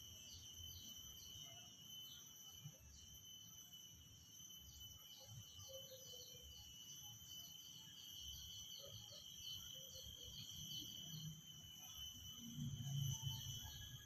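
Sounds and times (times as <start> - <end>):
cicadas droning: 0.0 - 14.0.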